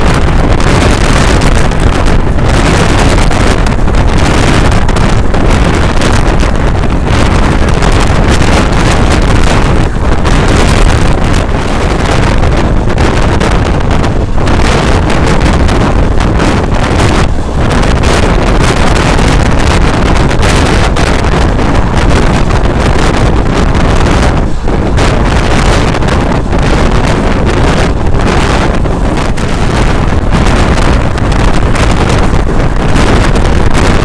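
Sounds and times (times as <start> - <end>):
train rumbling at speed: 0.0 - 34.0
wind buffeting microphone: 0.0 - 34.0.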